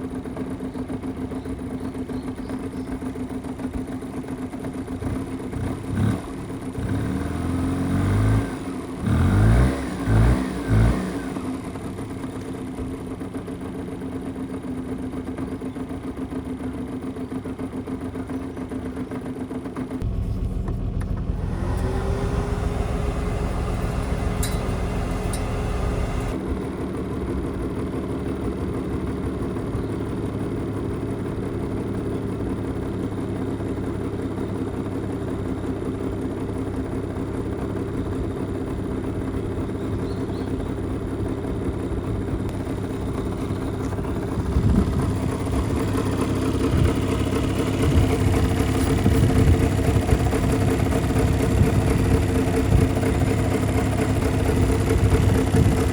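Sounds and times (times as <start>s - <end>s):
small two-stroke engine running: 0.0s - 55.9s.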